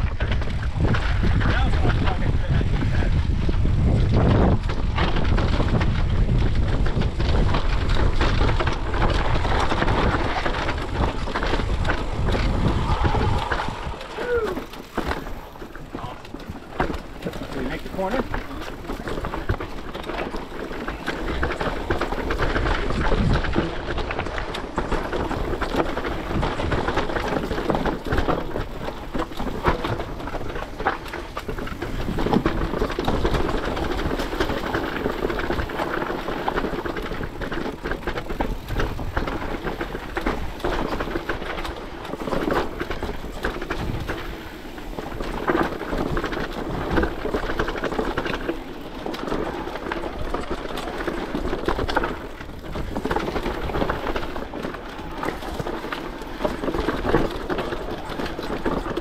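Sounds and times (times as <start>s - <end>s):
bike rattling over bumps: 0.0s - 59.0s
bike tyres rumbling over dirt: 0.0s - 59.0s.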